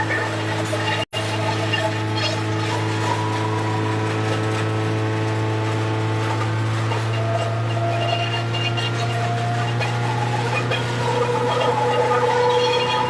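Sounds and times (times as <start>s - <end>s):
wood crusher machine humming: 0.0s - 13.0s.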